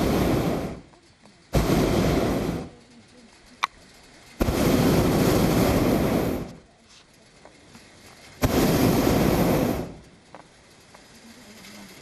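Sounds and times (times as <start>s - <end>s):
propane burner roaring: 0.0s - 12.0s.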